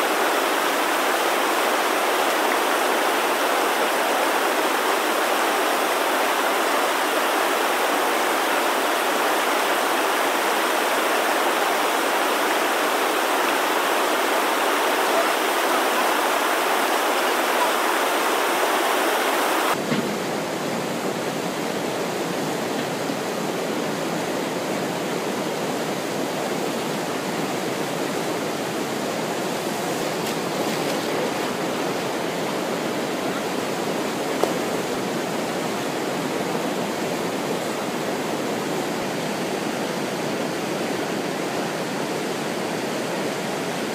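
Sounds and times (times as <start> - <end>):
river whitewater rushing: 0.0 - 43.9.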